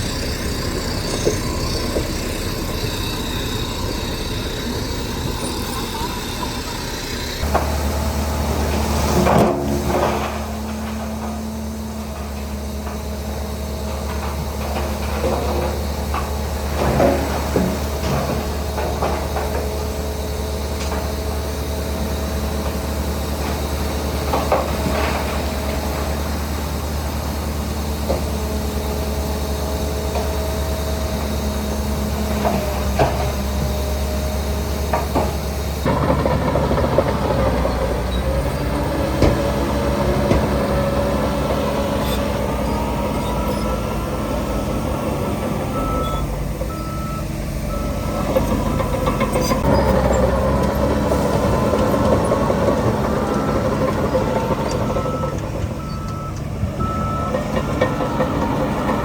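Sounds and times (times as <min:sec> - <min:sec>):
diesel machine running: 0:00.0 - 0:59.0.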